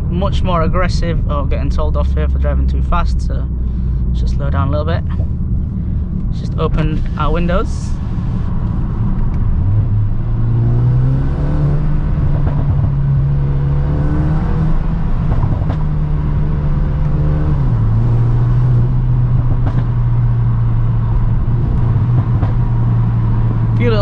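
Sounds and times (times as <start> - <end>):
car engine and exhaust pulling: 0.0 - 24.0.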